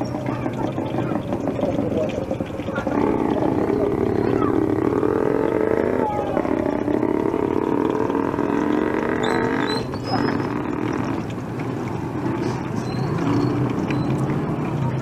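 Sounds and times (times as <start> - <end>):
motor engine hum: 0.0 - 15.0.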